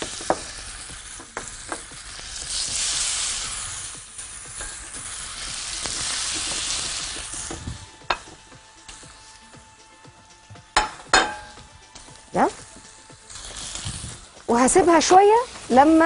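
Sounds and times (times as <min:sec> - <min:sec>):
steaks sizzling on grill pan: 0:00.0 - 0:16.0.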